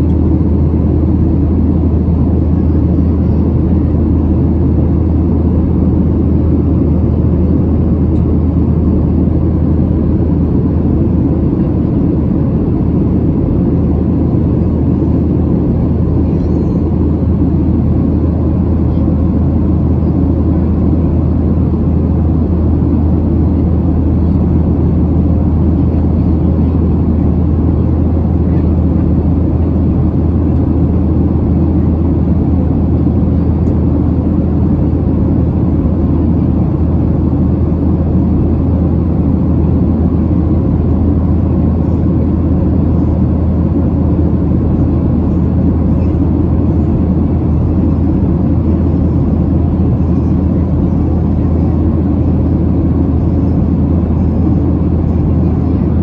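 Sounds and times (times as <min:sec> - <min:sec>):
jet engine drone: 0:00.0 - 0:56.0.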